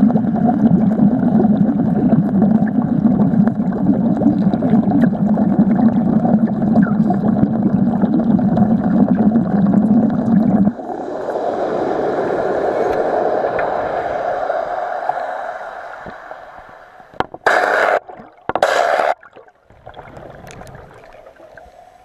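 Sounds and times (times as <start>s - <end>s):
water rushing and bubbling: 0.0s - 22.0s.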